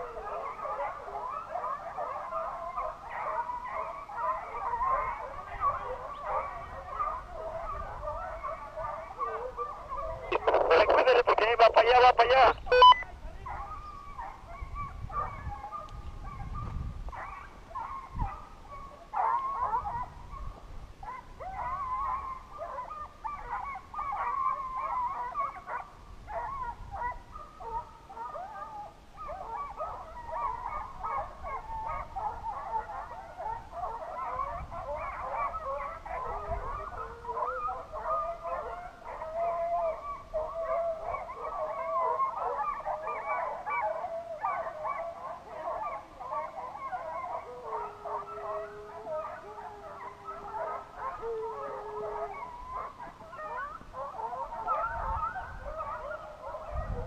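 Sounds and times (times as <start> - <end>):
hounds baying: 0.0 - 57.0.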